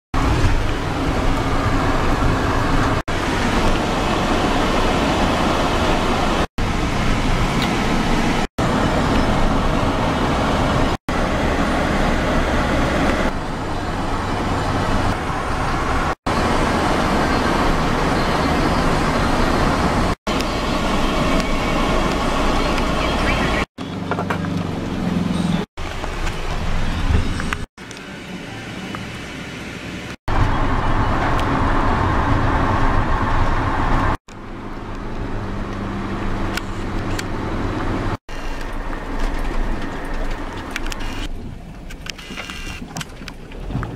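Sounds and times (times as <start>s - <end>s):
car road noise: 0.1s - 43.9s.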